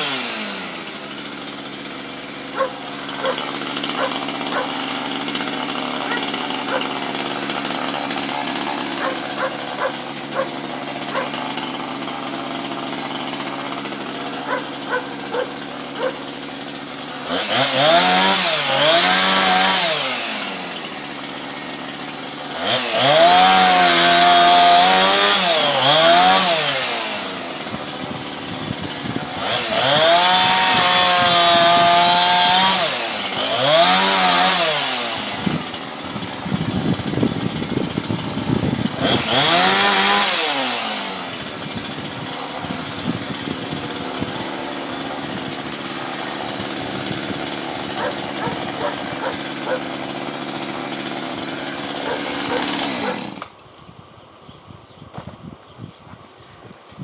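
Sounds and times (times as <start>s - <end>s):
chainsaw idling and revving: 0.0s - 53.8s
chainsaw cutting tree limbs: 0.0s - 57.0s.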